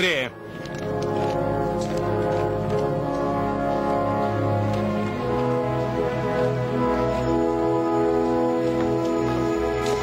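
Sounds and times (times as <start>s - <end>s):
orchestral sustained chords: 0.0s - 10.0s.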